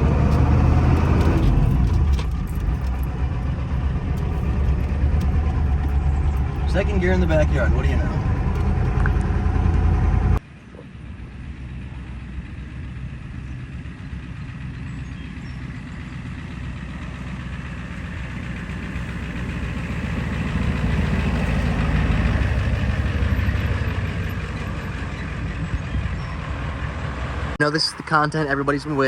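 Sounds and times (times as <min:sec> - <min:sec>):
diesel engine rumble: 0:00.0 - 0:29.0
diesel engine running loud: 0:00.0 - 0:29.0.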